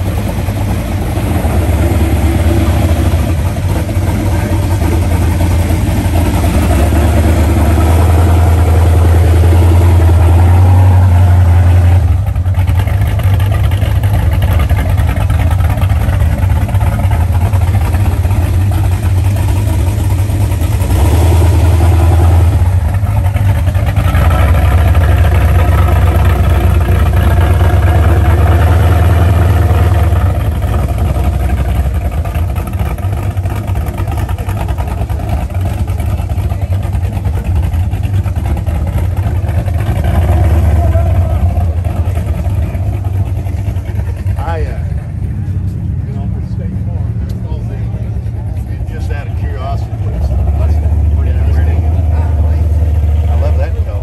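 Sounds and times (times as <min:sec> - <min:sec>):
car engines rumbling past: 0:00.0 - 0:54.0.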